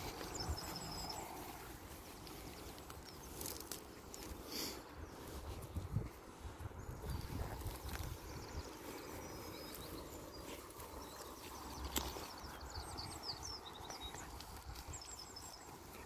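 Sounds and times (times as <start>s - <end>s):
wind rumbling on microphone: 0.0s - 4.2s, 4.8s - 16.0s
vegetation rustling: 0.0s - 16.0s.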